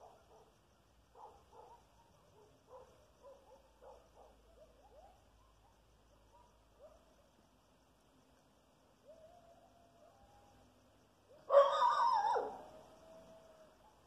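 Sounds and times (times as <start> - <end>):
distant coyotes yipping and howling: 0.0 - 7.5, 8.8 - 14.0.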